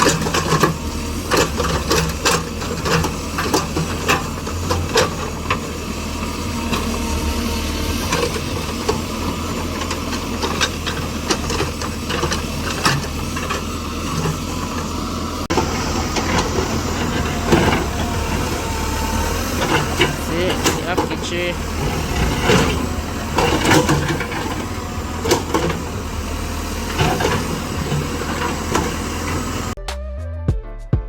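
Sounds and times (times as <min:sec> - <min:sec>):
sharp clanks and knocks: 0:00.0 - 0:29.8
tractor engine running: 0:00.0 - 0:29.8.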